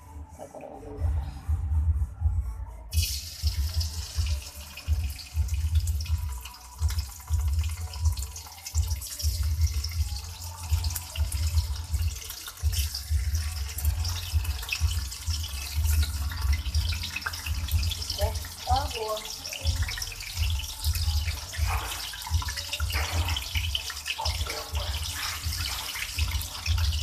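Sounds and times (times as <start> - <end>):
food sizzling in hot oil: 2.9 - 27.0.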